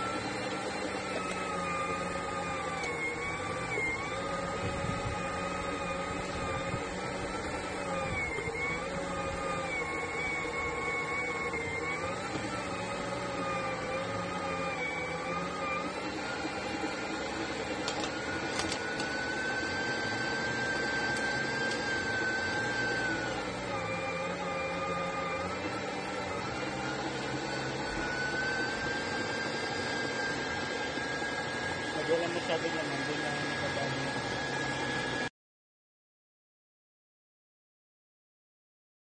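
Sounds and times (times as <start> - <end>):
meat grinder motor whining: 0.0 - 35.3.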